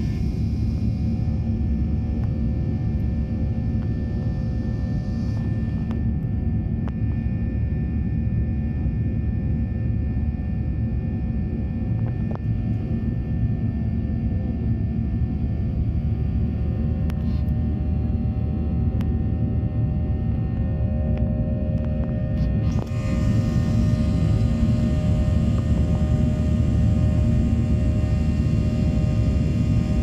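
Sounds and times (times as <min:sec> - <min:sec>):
faint constant tones: 0:00.0 - 0:30.0
jet engine rumble: 0:00.0 - 0:30.0.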